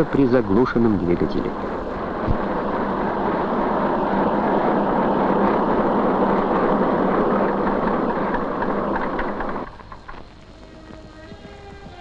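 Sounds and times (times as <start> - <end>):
combine harvester running: 0.0 - 11.1.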